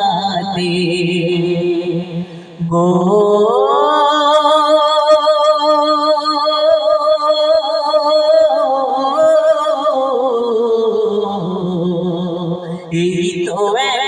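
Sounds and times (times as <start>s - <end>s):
man singing a devotional song: 0.0s - 14.0s.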